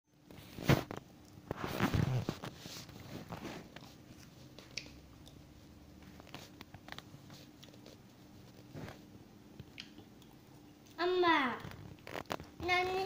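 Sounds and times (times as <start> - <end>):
faint steady hum: 0.1 - 13.0.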